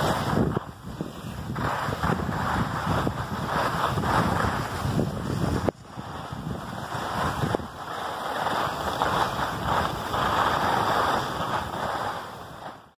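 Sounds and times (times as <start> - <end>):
skis scraping over packed snow: 0.0 - 13.0
wind on microphone: 0.0 - 13.0.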